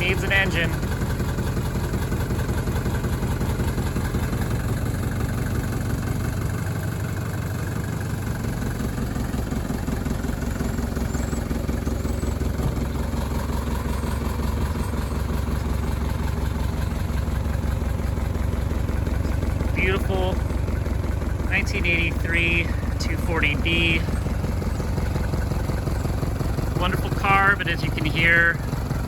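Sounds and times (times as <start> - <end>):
diesel engine idling with clatter: 0.0 - 29.0.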